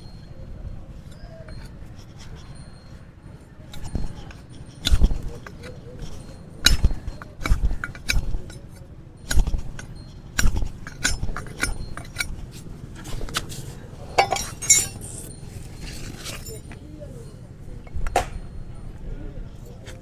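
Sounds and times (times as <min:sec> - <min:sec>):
metal tools clinking on hoof: 0:00.0 - 0:20.0.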